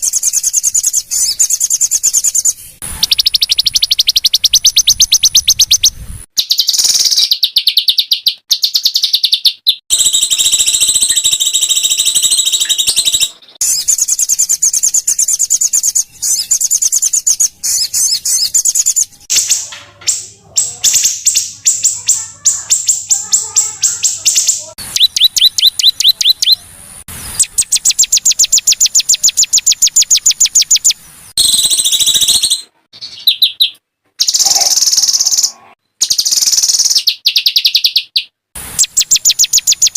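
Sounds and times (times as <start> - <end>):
bird chirps: 0.0 - 39.9
songbirds trilling: 0.0 - 39.9.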